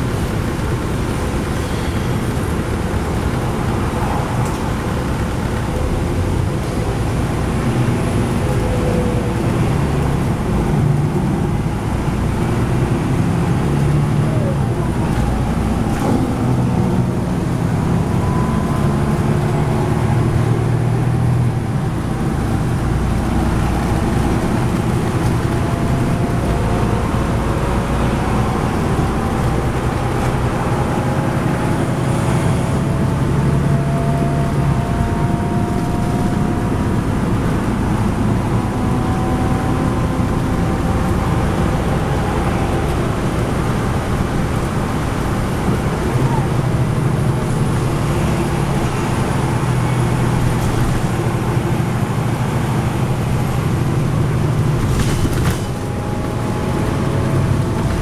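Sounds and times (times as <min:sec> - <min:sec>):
bus diesel engine running: 0:00.0 - 0:58.0
road and tyre noise: 0:00.0 - 0:58.0.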